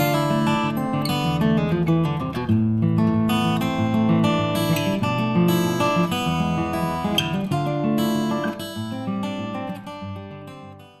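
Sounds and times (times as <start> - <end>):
strummed acoustic guitar chords: 0.0 - 11.0.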